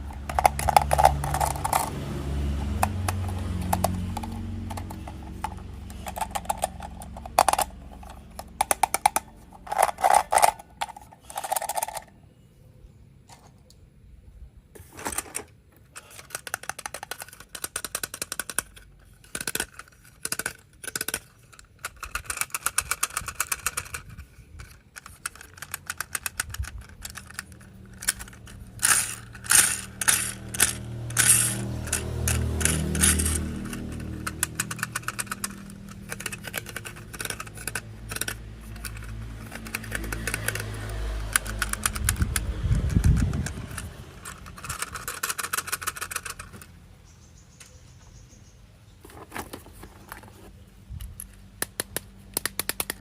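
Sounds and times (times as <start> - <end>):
plastic toy parts clicking: 0.0 - 12.2, 14.9 - 46.7, 49.0 - 53.0.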